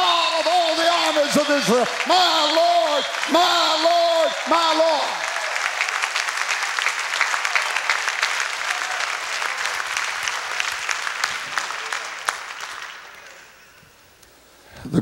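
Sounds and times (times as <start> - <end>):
crowd applauding: 0.0 - 14.1.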